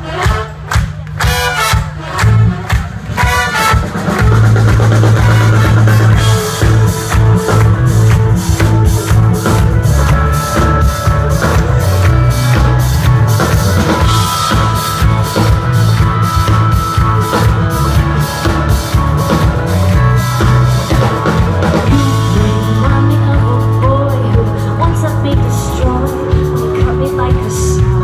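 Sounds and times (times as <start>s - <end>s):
drum kit beat: 0.0s - 28.0s
live rock band playing: 0.0s - 28.0s.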